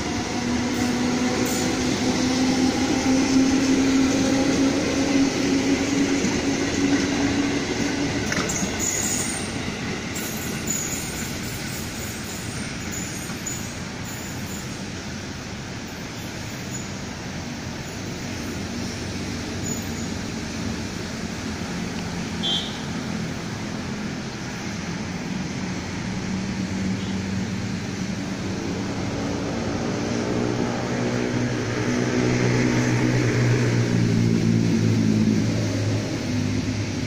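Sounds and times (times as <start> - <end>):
distant train rumble: 0.0 - 37.0
train engine drone: 0.0 - 37.0.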